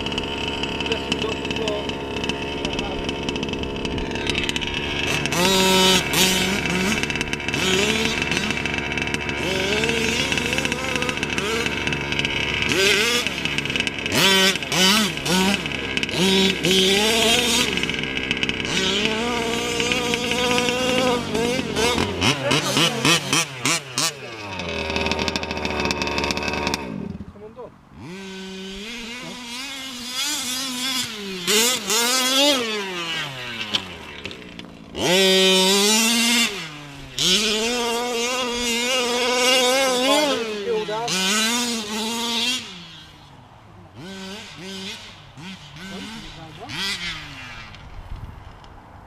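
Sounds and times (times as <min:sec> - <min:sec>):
two-stroke engine revving: 0:00.0 - 0:48.6.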